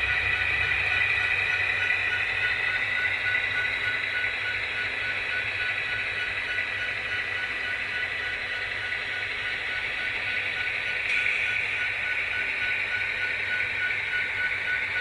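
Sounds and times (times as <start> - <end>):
model train wheels on rails: 0.0 - 15.0
thin high whine: 0.0 - 15.0.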